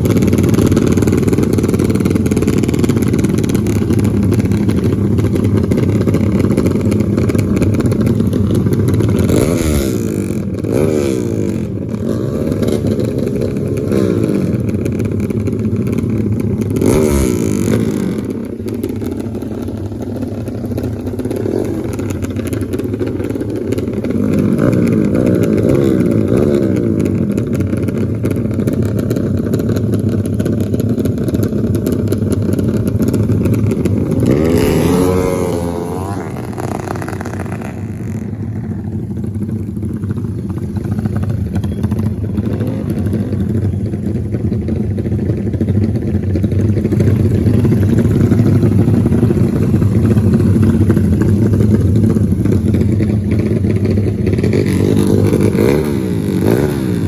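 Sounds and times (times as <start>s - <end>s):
racing motorcycle engines revving: 0.0s - 57.0s.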